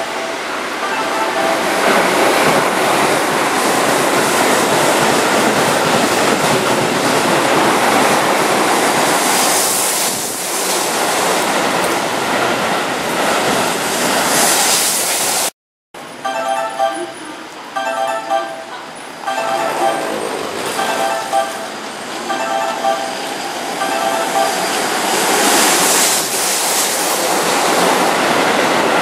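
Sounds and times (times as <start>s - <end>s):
train wheels rushing on rails: 0.0s - 15.5s, 17.9s - 29.0s.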